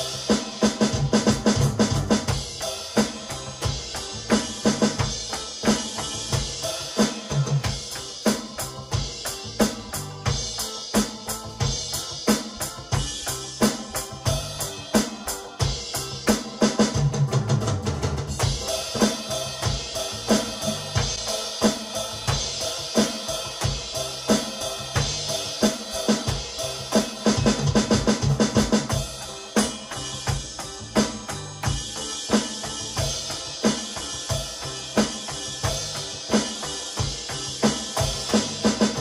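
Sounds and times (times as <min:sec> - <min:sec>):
backing music track: 0:00.0 - 0:39.0
electronic drum kit groove: 0:00.0 - 0:39.0.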